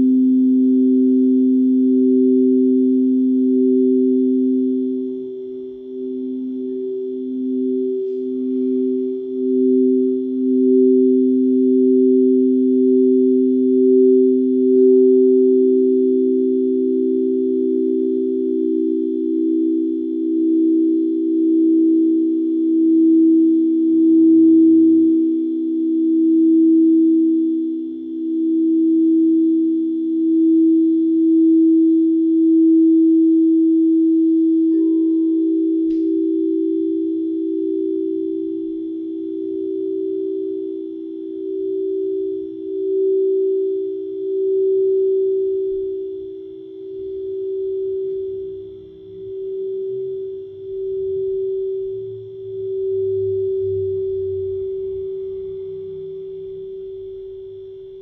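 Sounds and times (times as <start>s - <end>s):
higher singing bowl tone: 0.0s - 58.0s
singing bowls ringing: 0.0s - 58.0s.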